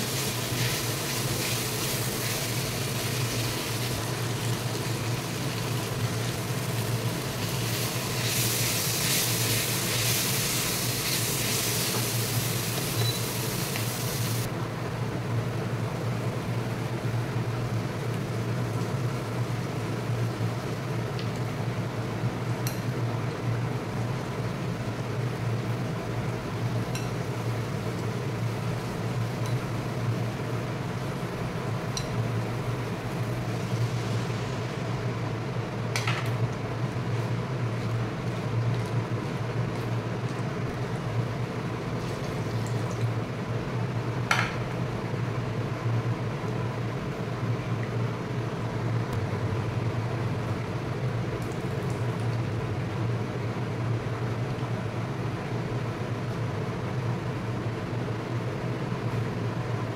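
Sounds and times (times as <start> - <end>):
induction cooktop hum: 0.0 - 59.9.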